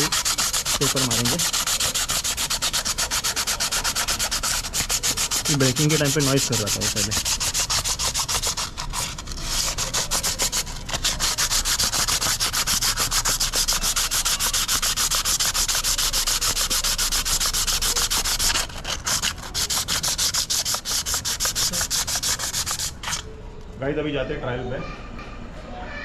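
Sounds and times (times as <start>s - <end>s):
sandpaper scrubbing metal disc: 0.0s - 23.3s.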